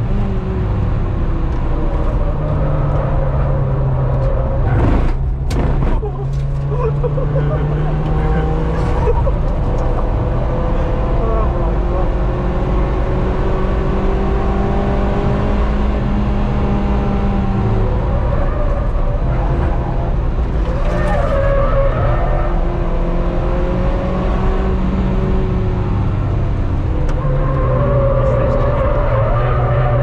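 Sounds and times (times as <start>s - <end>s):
car engine revving: 0.0s - 30.0s
road noise inside car: 0.0s - 30.0s.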